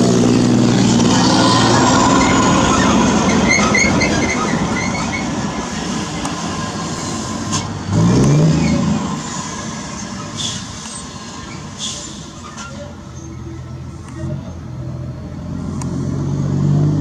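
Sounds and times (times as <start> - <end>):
truck diesel engine revving: 0.0 - 17.0.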